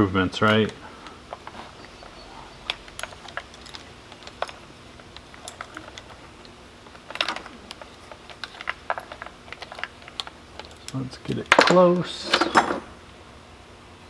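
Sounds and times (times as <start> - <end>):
saw chain metal clicks and rattles: 0.0 - 13.0.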